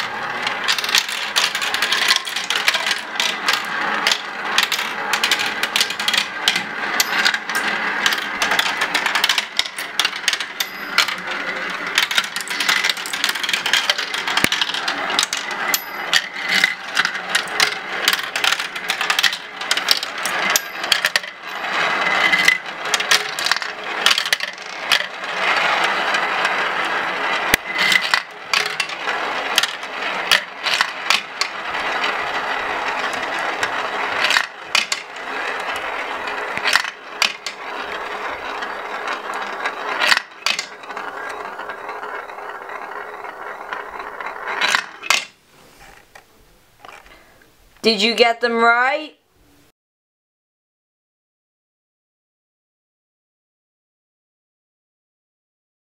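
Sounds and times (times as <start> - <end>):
marbles clicking: 0.0 - 45.4
marbles rolling and clattering: 0.0 - 47.4.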